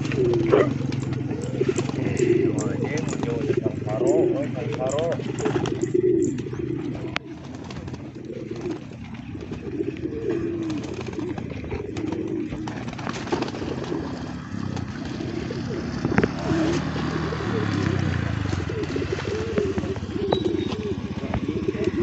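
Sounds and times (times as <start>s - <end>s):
outdoor background noise: 0.0s - 22.0s
pigeons cooing: 0.0s - 22.0s.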